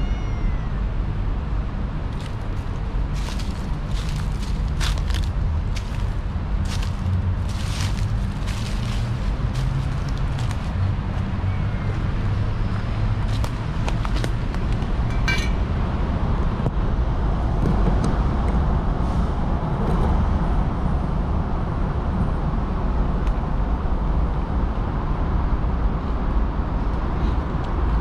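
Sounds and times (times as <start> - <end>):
city traffic rumble: 0.0 - 28.0.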